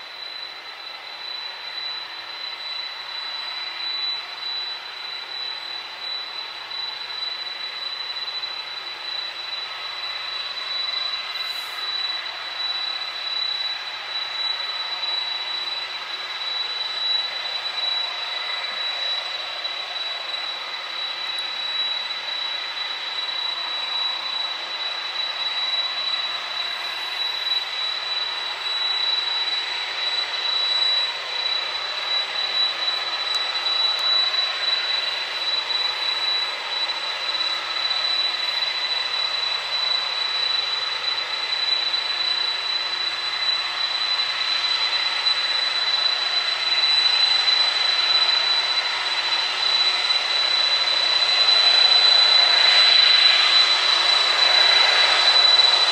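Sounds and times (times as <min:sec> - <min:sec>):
jet engines at high power: 0:00.0 - 0:55.9.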